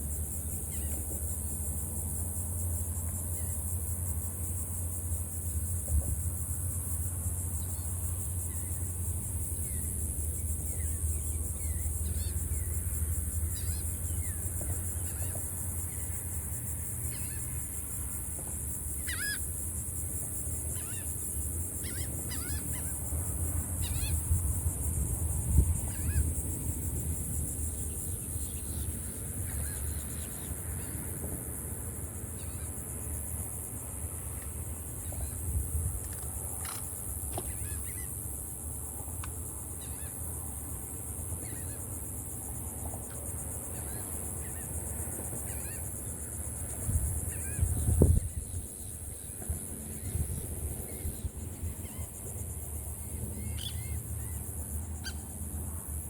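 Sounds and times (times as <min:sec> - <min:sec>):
constant high hiss: 0:00.0 - 0:56.0.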